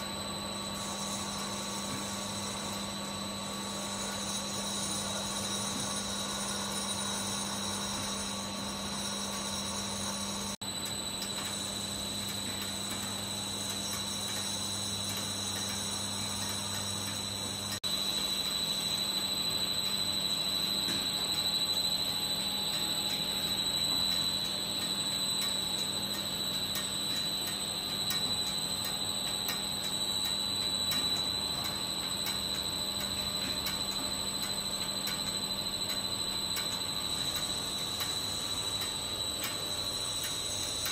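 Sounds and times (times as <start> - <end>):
high-pitched whine: 0.0 - 40.9
machine hum: 0.0 - 40.9.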